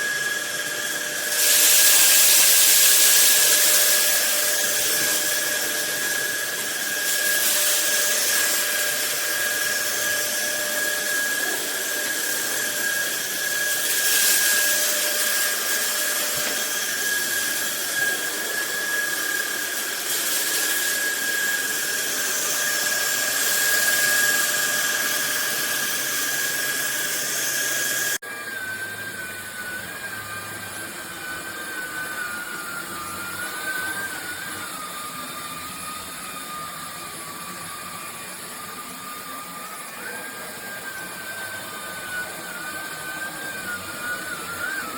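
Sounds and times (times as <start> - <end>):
vacuum motor whining: 0.0 - 44.9.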